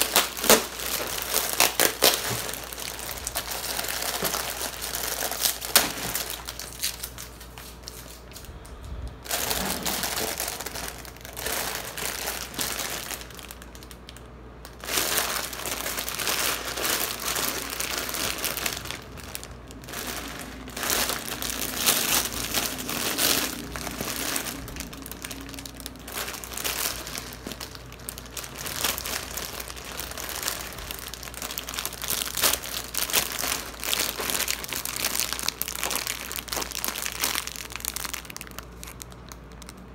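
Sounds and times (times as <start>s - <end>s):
plastic wrapper crinkling: 0.0s - 39.9s.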